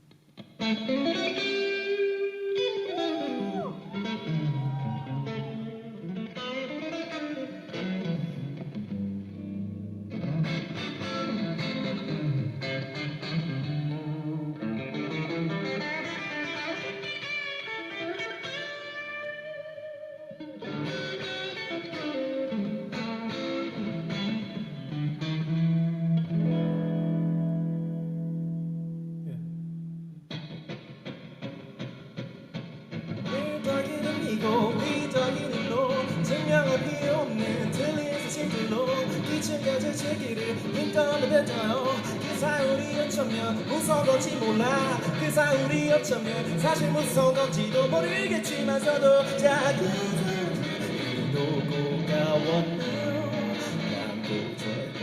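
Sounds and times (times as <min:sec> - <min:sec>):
electric guitar with effects: 0:00.0 - 0:55.0.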